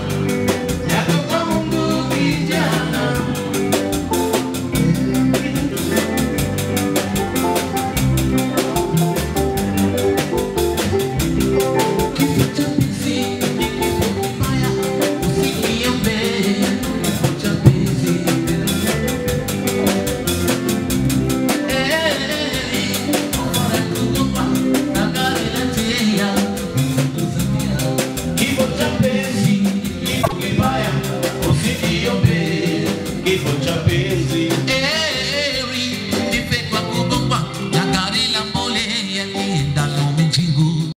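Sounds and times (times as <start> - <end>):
drum kit beat: 0.0 - 40.9
live band playing dance music: 0.0 - 40.9.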